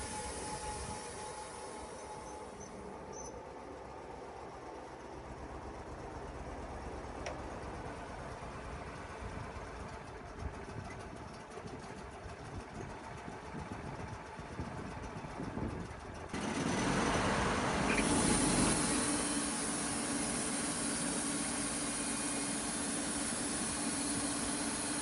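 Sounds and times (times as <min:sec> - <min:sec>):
sawmill rumble: 0:00.0 - 0:25.0.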